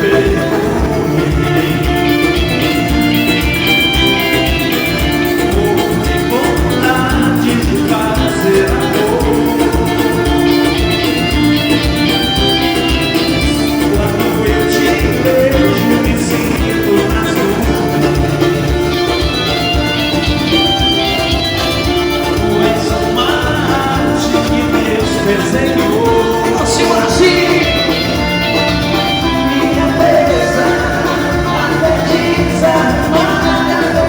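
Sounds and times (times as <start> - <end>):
live band playing upbeat music: 0.0 - 34.0.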